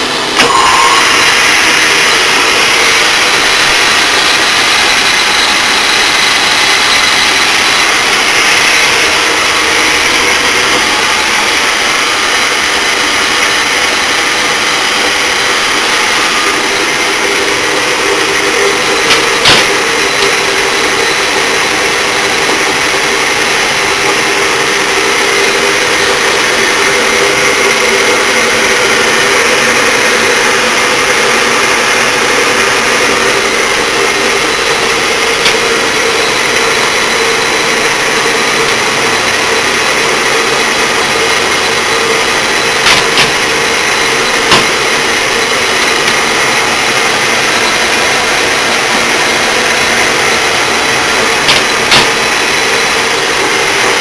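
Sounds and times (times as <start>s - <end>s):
lathe motor hum and whine: 0.0s - 54.0s.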